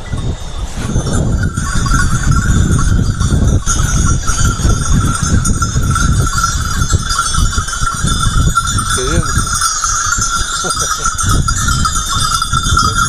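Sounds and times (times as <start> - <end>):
sheep bells clanking: 0.0 - 13.0
wind on microphone: 0.0 - 13.0.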